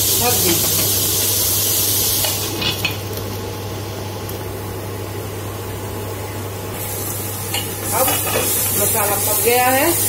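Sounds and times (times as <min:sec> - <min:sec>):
masala sizzling in a wok: 0:00.0 - 0:05.4, 0:06.7 - 0:10.0.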